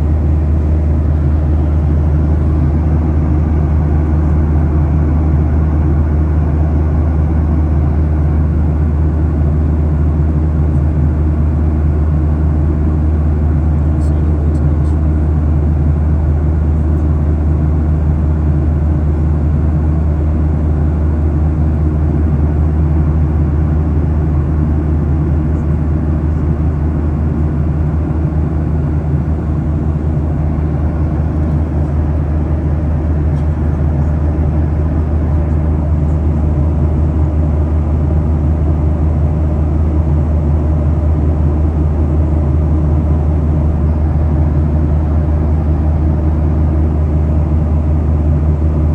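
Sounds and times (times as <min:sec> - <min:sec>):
airliner cabin engine hum: 0:00.0 - 0:48.9.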